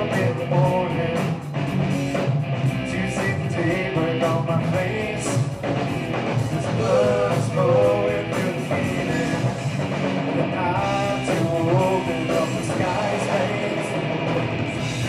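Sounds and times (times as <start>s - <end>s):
person singing lead vocals: 0.0s - 1.4s, 2.8s - 9.6s, 10.2s - 15.0s
bass guitar: 0.0s - 15.0s
drum kit: 0.0s - 15.0s
electric guitars: 0.0s - 15.0s.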